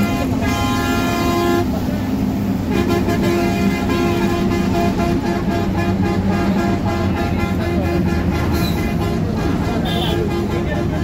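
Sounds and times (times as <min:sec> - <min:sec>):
bus engine drone: 0:00.0 - 0:11.0
low road rumble: 0:00.0 - 0:11.0.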